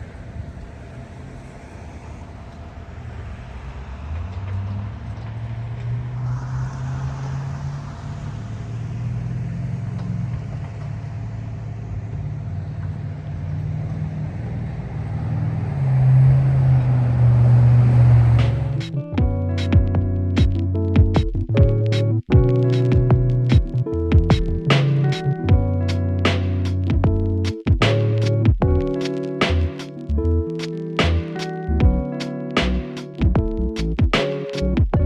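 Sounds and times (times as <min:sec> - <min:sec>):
road traffic noise: 0:00.0 - 0:35.0
vehicle engine droning: 0:00.0 - 0:35.0.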